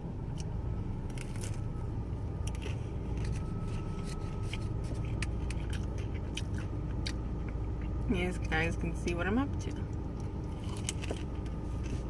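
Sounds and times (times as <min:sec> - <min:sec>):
low rumble inside car: 0:00.0 - 0:12.0.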